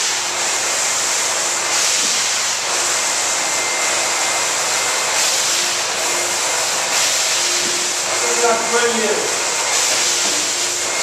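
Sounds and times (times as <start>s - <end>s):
floor extraction wand hissing: 0.0s - 11.0s.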